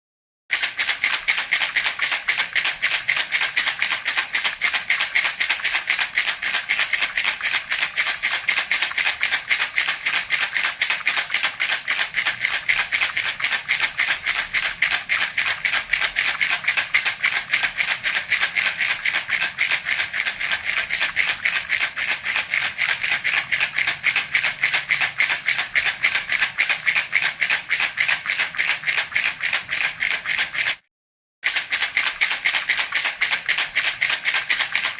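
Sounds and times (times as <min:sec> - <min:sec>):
baby rattle shaking: 0:00.5 - 0:30.8, 0:31.4 - 0:34.9.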